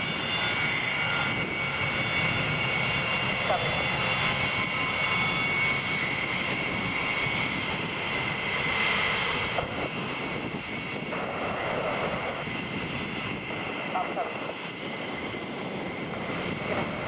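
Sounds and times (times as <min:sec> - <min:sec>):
jet engine rush and whine: 0:00.0 - 0:17.0.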